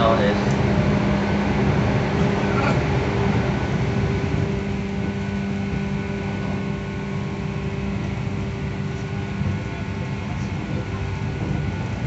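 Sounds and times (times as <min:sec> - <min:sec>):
train motor hum: 0:00.0 - 0:12.0
wheels rumbling on rail: 0:00.0 - 0:12.0.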